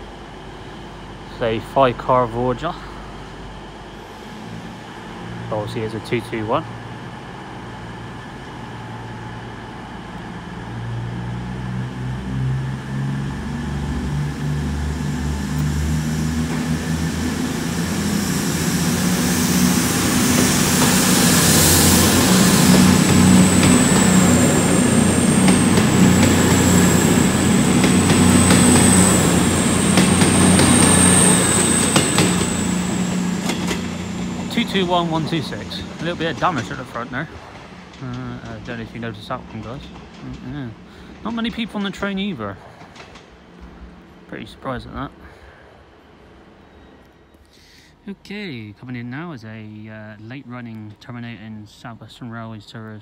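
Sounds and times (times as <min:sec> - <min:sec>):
train diesel engines running: 0:00.0 - 0:53.0.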